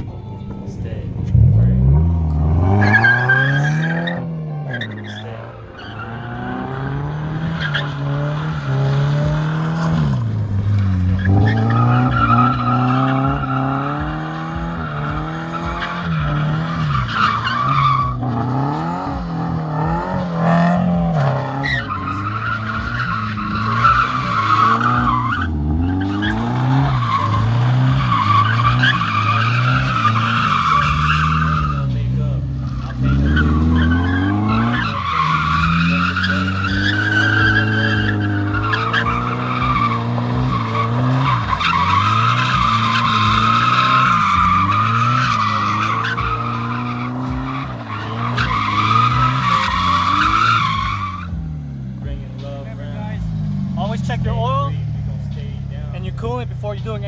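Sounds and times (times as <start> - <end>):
car engine revving: 0.0 - 57.0
tyres squealing: 1.3 - 57.0.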